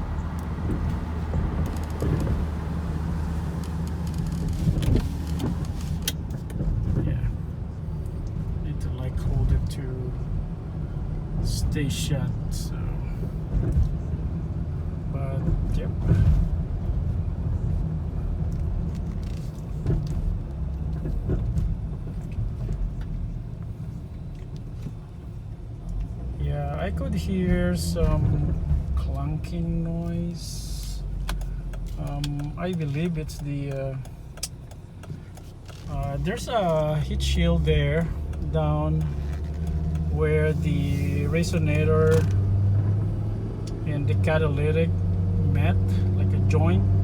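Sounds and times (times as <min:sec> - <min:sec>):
car engine drone in cabin: 0:00.0 - 0:47.0
road noise: 0:00.0 - 0:47.0.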